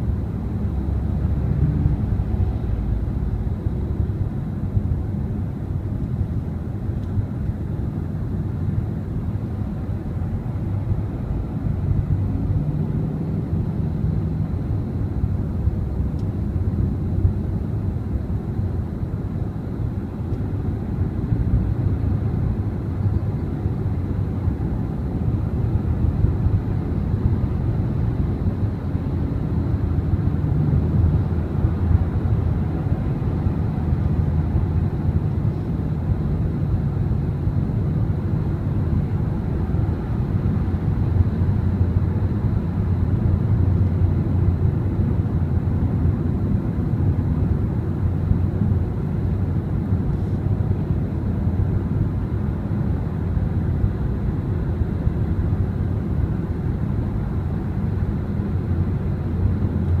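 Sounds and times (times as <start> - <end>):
car cabin road rumble: 0.0 - 60.0.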